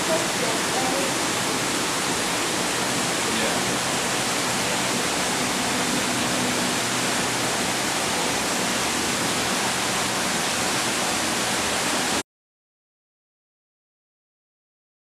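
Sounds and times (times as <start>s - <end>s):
rush of falling water: 0.0s - 12.2s.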